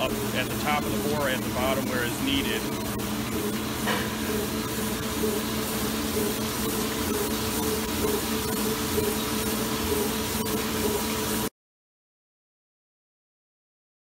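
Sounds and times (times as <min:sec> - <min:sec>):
honing machine hum with hiss: 0:00.0 - 0:11.5.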